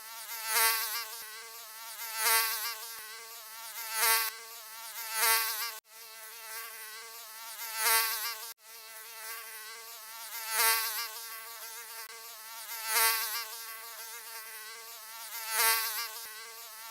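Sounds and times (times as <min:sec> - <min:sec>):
mosquito buzzing: 0:00.0 - 0:16.9.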